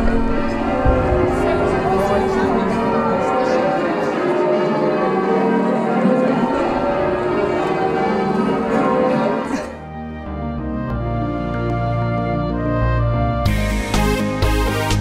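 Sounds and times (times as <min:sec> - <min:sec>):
church bells pealing: 0:00.0 - 0:13.4.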